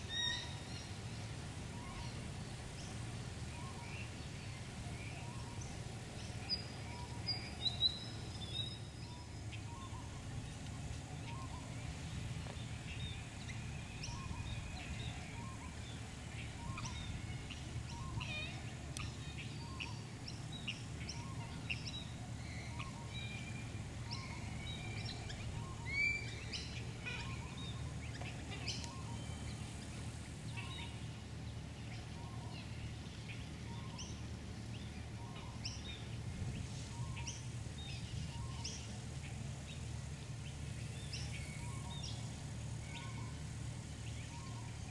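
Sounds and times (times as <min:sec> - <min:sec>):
birds chirping and calling: 0:00.0 - 0:44.9
steady low rumble: 0:00.0 - 0:44.9.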